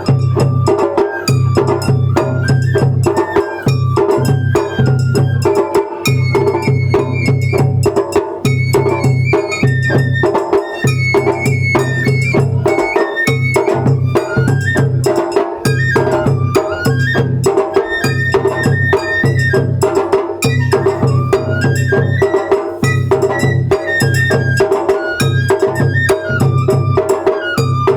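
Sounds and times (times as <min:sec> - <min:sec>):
bamboo flute melody: 0:00.0 - 0:27.9
sharp clicking percussion: 0:00.0 - 0:27.9
taiko drumming: 0:00.0 - 0:27.9.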